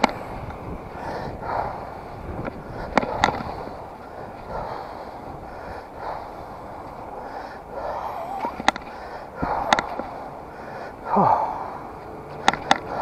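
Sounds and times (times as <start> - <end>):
road and wind noise: 0.0 - 13.0
person breathing hard: 0.3 - 12.0.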